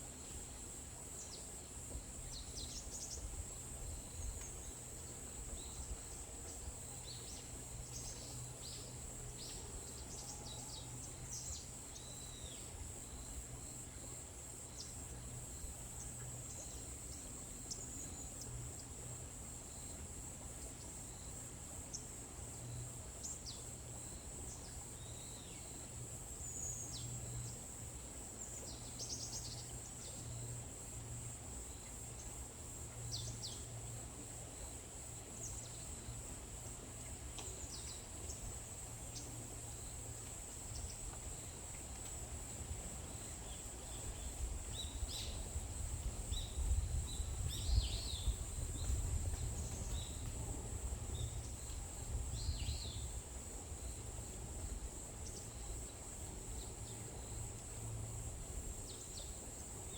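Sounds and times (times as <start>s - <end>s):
high-pitched insect trill: 0.2s - 59.9s.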